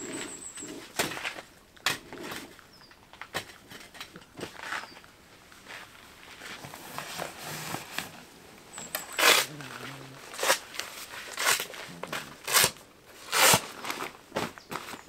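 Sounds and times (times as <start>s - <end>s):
crunching footsteps: 0.0s - 15.0s.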